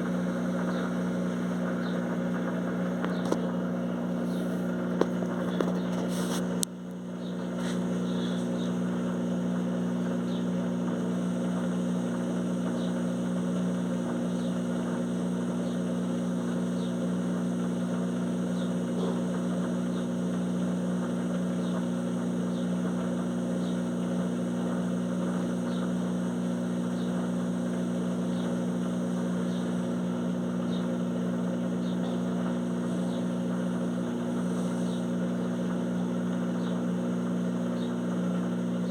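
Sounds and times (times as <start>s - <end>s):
washing machine spinning hum: 0.0s - 38.9s.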